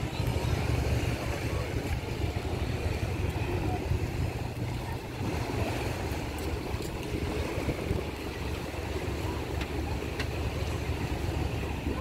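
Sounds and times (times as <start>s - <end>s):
water washing: 0.0s - 12.0s
wind buffeting microphone: 0.0s - 12.0s.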